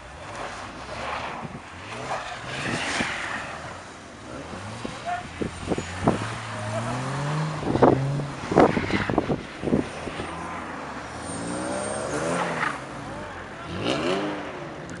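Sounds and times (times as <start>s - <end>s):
car sliding through deep snow: 0.0s - 14.5s
car engine revving: 0.3s - 15.0s.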